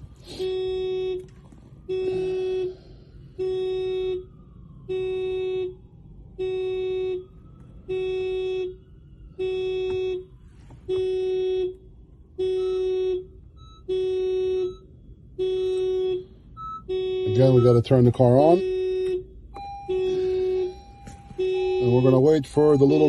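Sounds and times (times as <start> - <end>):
car horn alarm honks: 0.2 - 5.8, 6.4 - 23.0.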